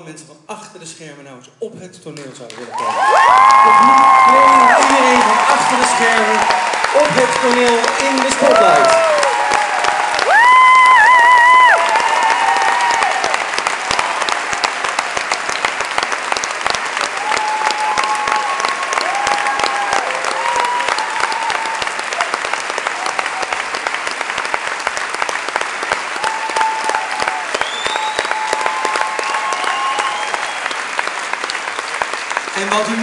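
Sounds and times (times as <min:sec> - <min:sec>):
audience applauding: 0:02.4 - 0:33.0.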